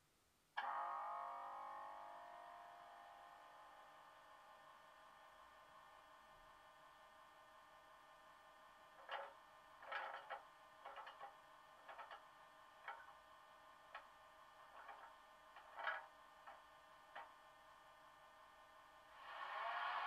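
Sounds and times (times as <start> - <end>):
electrical hum from small speaker: 0.0 - 20.0.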